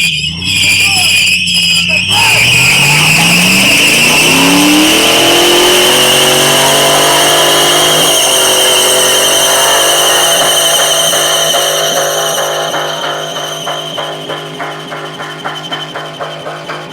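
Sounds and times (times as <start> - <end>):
car engine revving: 0.0 - 16.9
tire screeching: 0.0 - 16.9.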